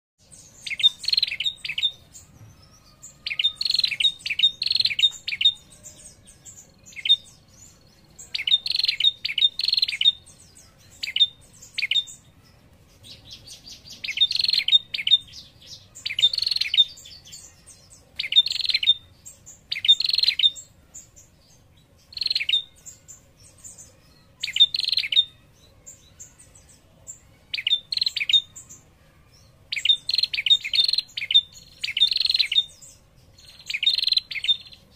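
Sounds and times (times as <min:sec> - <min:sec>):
bird chattering trills: 0:00.4 - 0:34.9.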